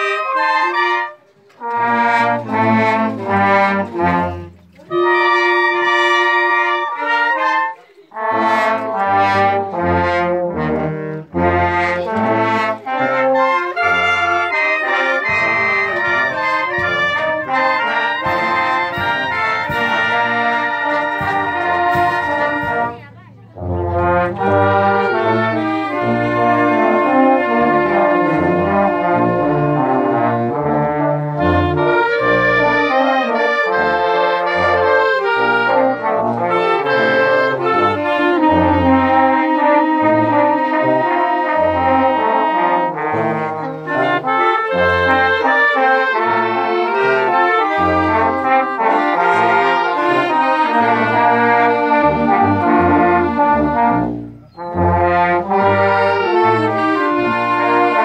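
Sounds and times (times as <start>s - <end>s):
wind band playing slow bolero: 0.0s - 58.0s.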